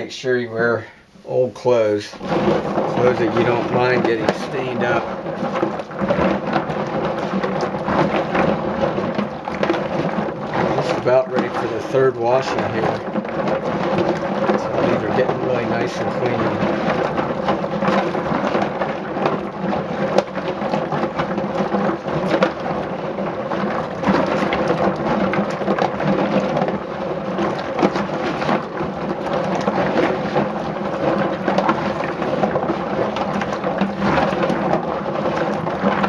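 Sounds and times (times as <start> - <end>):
water sloshing: 0.0 - 36.0.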